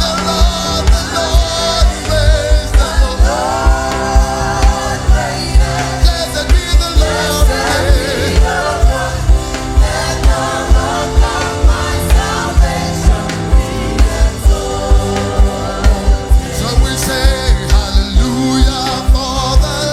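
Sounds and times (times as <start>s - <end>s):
band playing: 0.0s - 19.9s
group of voices singing: 0.0s - 19.9s
heavy bass drum beating: 0.0s - 19.9s.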